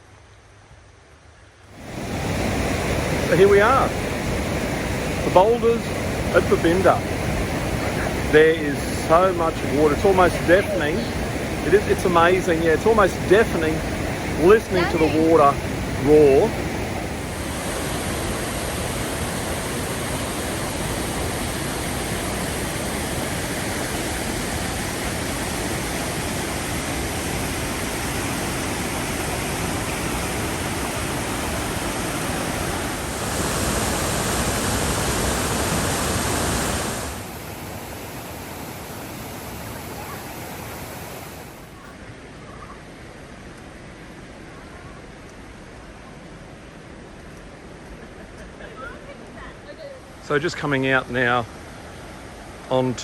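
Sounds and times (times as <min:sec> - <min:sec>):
water rushing over boulders: 0:01.7 - 0:53.0.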